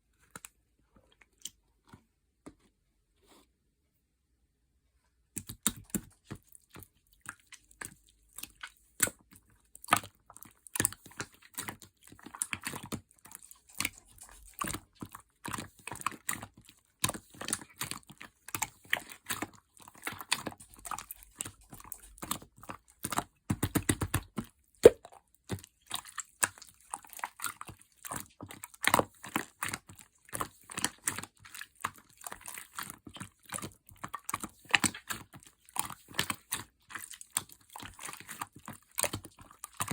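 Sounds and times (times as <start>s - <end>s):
slime squishing with sticky pops: 5.3s - 39.9s.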